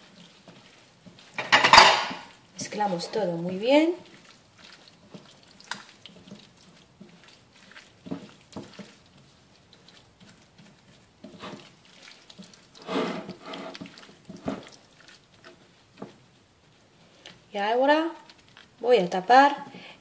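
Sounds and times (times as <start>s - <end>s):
wet squishing of meat mixed by hand: 0.0s - 20.0s.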